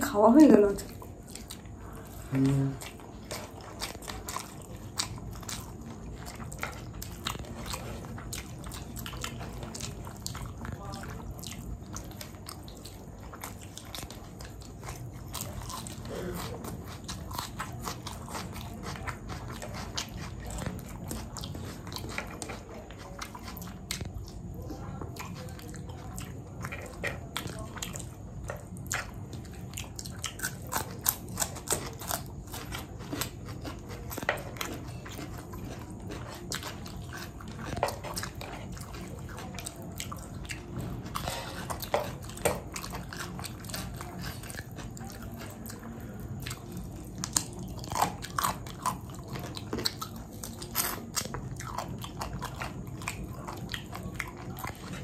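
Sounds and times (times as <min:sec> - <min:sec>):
person chewing food: 0:00.6 - 0:55.0.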